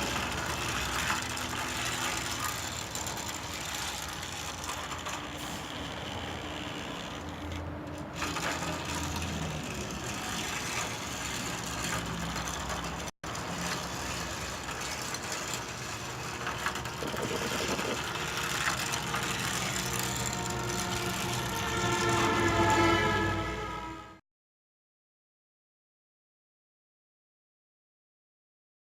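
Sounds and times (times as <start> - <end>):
toy train motor and gears running: 0.0 - 23.2.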